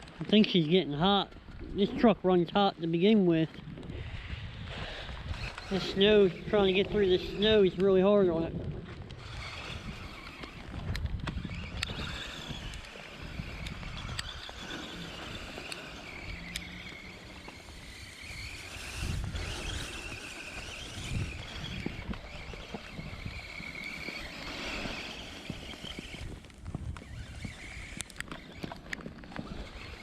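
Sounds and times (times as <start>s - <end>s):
electric motor whining: 3.5s - 30.0s.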